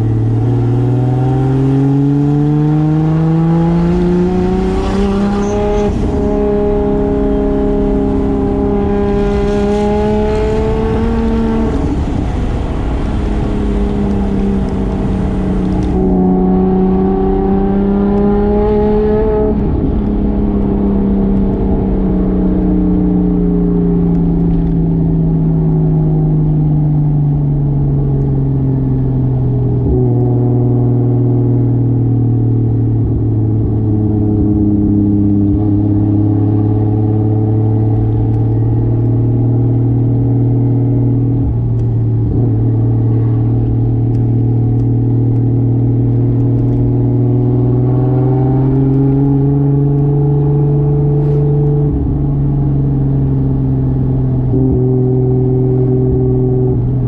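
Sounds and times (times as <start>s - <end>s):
car engine running: 0.0s - 30.4s, 37.9s - 57.0s.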